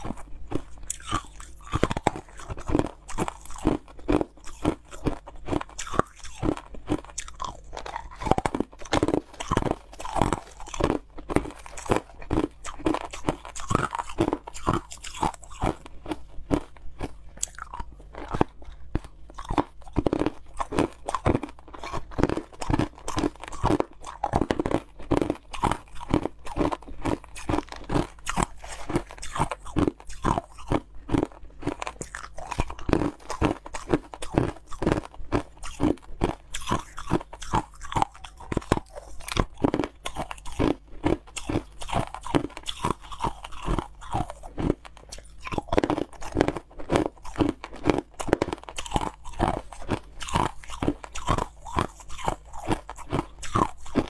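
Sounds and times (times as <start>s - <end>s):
crushed ice being chewed: 0.0s - 54.0s.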